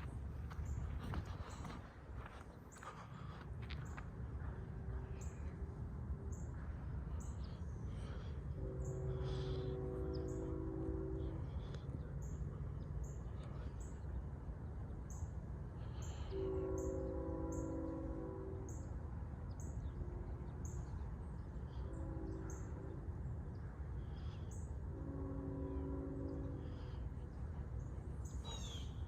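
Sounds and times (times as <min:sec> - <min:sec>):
distant locomotive air horn: 0:04.4 - 0:14.6, 0:15.5 - 0:29.0.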